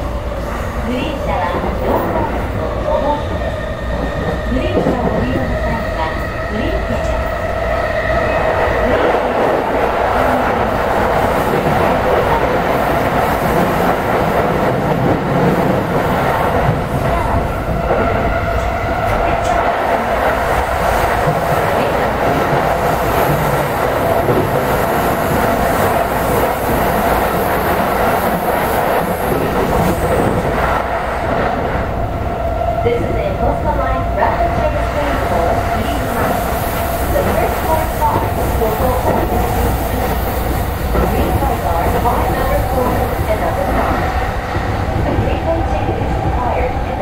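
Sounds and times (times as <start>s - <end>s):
train wheels rumbling on rails: 0.0s - 47.0s
train whine: 0.0s - 47.0s
train clatter: 0.8s - 7.3s, 8.2s - 32.1s, 32.9s - 47.0s.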